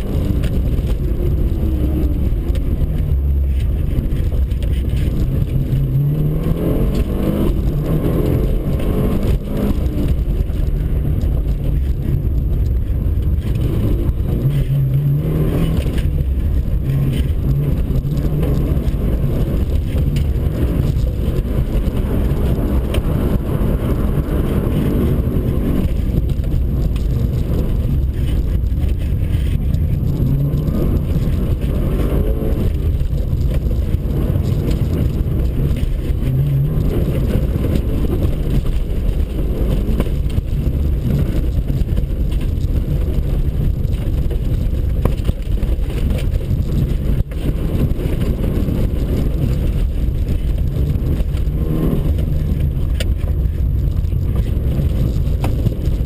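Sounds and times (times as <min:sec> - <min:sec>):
car engine running hard: 0:00.0 - 0:56.0
road and tyre noise: 0:00.0 - 0:56.0.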